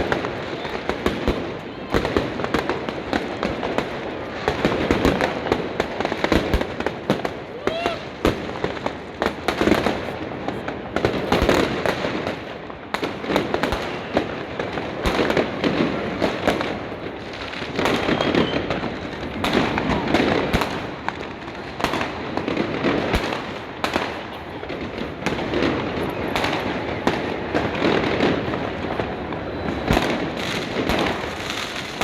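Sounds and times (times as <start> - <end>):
firecrackers banging and crackling: 0.0 - 32.0.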